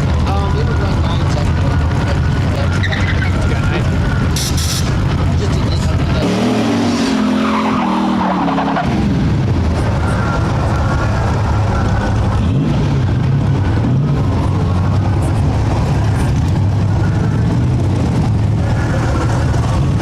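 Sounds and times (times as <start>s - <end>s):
truck engines idling loudly: 0.0s - 20.0s.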